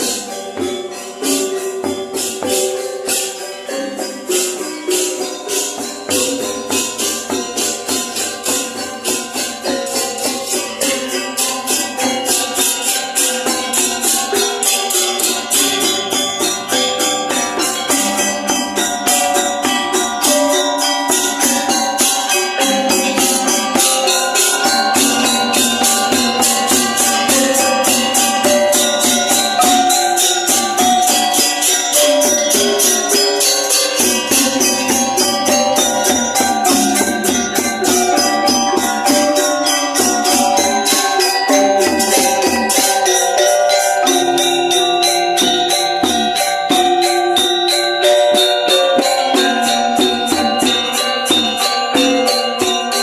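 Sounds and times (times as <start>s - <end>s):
cymbal strokes: 0.0s - 53.0s
metallophones and gongs ringing: 0.0s - 53.0s.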